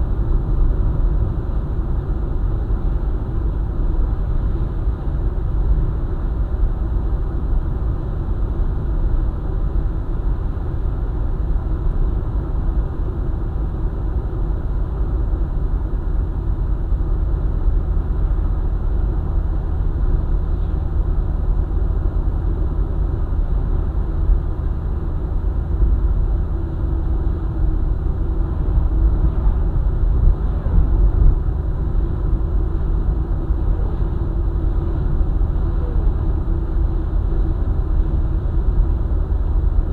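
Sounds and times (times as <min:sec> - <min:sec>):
vehicle road noise rumble: 0:00.0 - 0:39.9.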